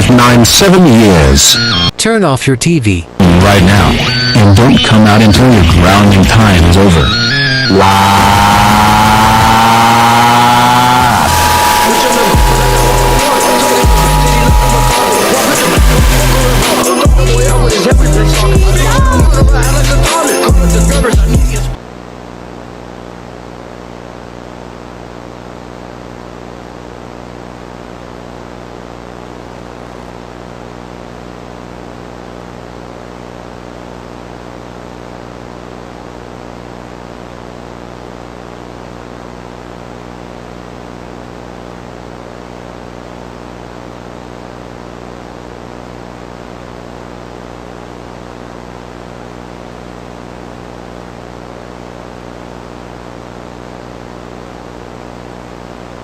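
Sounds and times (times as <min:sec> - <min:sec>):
tv static hiss: 0:00.0 - 0:56.0.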